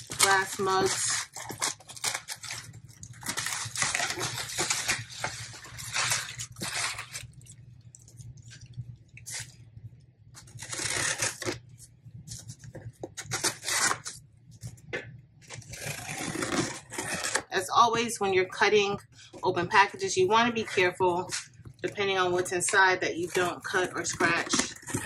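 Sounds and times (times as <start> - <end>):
bubble wrap crinkling and tearing: 0.0 - 9.7, 10.3 - 14.3, 15.4 - 17.5, 20.0 - 25.0.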